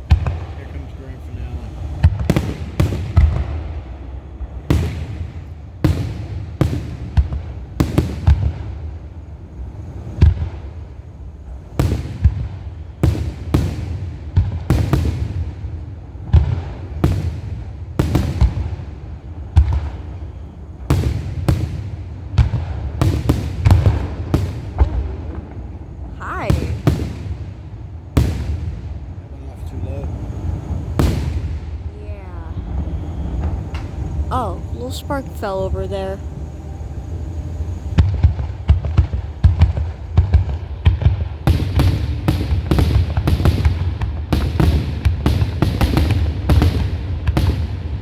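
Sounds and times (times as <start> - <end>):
continuous fireworks rumble: 0.0 - 48.0
fireworks shells booming: 0.0 - 48.0.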